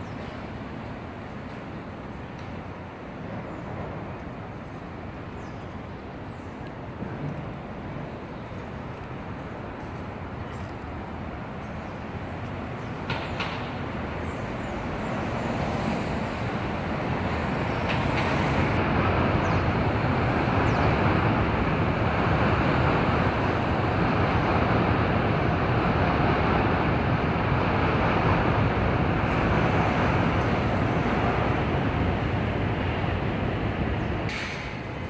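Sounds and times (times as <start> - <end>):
city street traffic rumble: 0.0 - 35.0.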